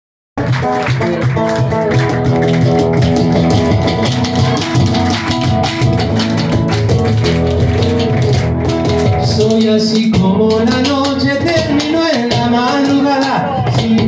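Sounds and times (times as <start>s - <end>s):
acoustic guitar chords: 0.4s - 14.0s
cajon rhythm: 0.4s - 14.0s
bass drum beaten with sticks: 1.4s - 14.0s.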